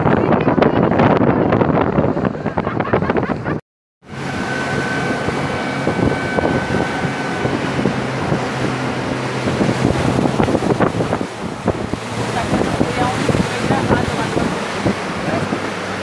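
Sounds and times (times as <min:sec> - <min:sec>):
motorboat engine running: 0:00.0 - 0:16.0
wind buffeting microphone: 0:00.0 - 0:16.0.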